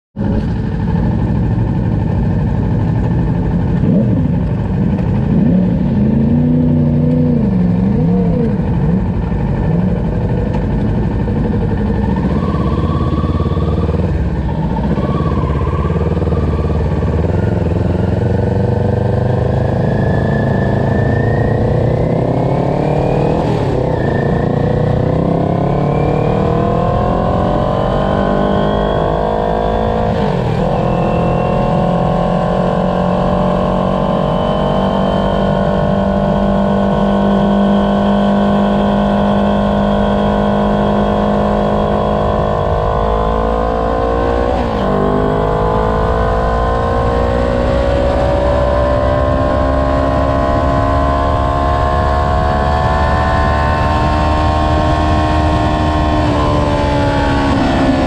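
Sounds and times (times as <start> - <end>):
motorcycle engine accelerating: 0.2 - 58.0.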